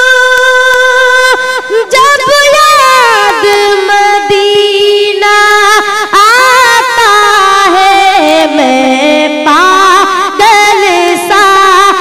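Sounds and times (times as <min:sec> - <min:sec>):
boy singing into a microphone: 0:00.0 - 0:12.0.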